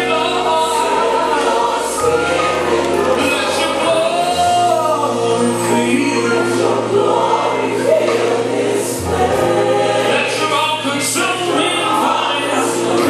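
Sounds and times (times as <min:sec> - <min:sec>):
choir singing gospel: 0:00.0 - 0:13.0.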